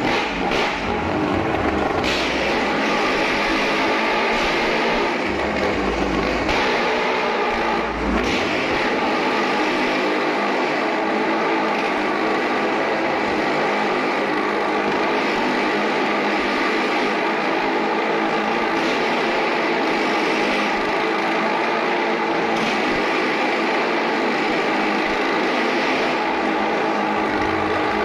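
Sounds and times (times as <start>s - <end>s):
motorcycle engines running loud: 0.0s - 28.0s.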